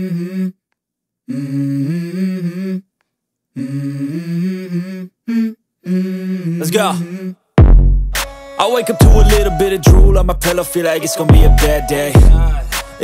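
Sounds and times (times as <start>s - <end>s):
hummed vocal music: 0.0s - 7.6s, 8.3s - 13.0s.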